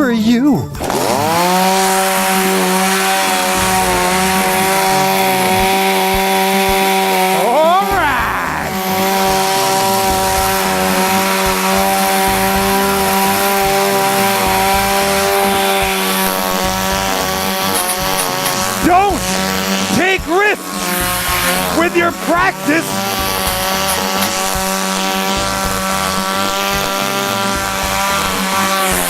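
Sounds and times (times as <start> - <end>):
chainsaw running at high revs: 0.7 - 29.0.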